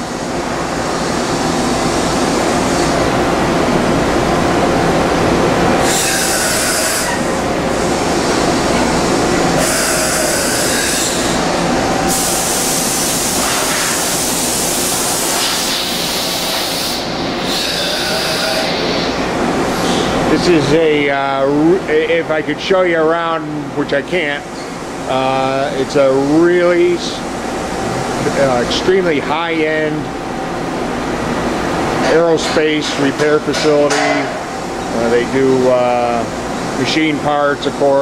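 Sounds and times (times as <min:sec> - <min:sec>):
machining center running: 0:00.0 - 0:38.0.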